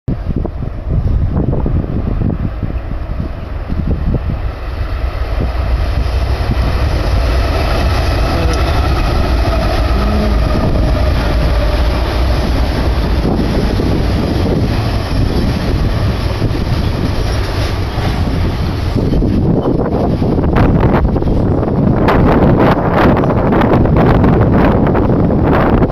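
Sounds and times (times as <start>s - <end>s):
diesel locomotives running: 0.1s - 25.9s
wind rumble on microphone: 0.1s - 25.9s.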